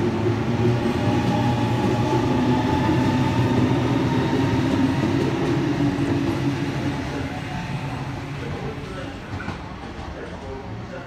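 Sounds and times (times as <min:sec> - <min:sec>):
electric train rolling rumble: 0:00.0 - 0:11.0
faint train whine: 0:00.0 - 0:11.0.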